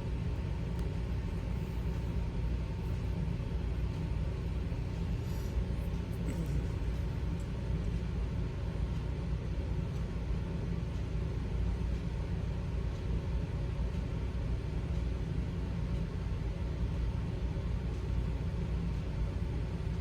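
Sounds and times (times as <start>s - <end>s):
low rumble with hiss: 0.0s - 20.0s.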